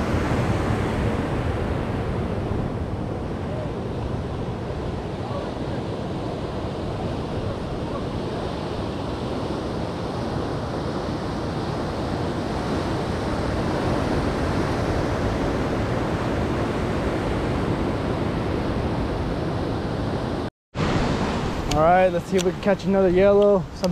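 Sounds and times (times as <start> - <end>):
ocean surf breaking on rocks: 0.0 - 23.9.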